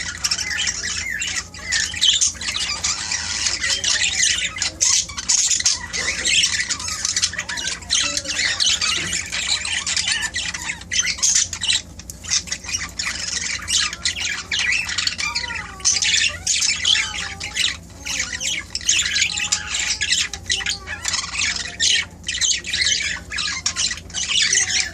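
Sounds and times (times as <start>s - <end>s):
budgerigars chattering and squawking: 0.0s - 24.9s
faint low hum: 0.0s - 24.9s.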